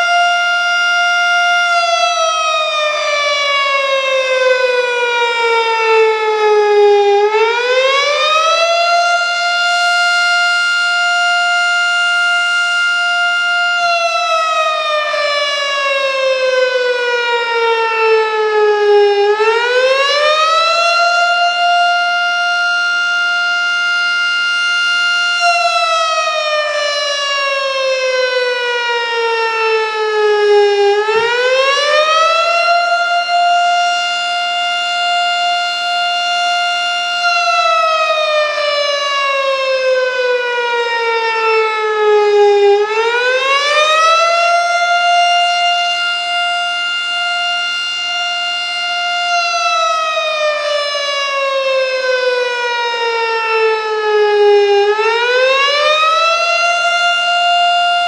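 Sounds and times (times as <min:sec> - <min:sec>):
fire siren wailing: 0:00.0 - 0:58.0.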